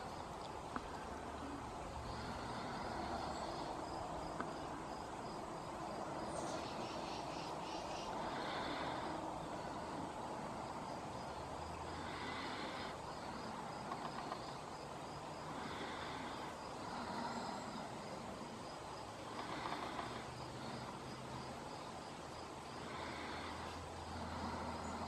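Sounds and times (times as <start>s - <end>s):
distant traffic hum: 0.0s - 25.0s
insects chirping: 0.0s - 25.0s.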